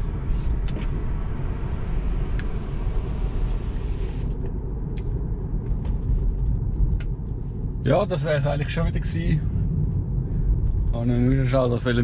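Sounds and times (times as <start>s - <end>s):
tyre and road rumble: 0.0s - 12.0s.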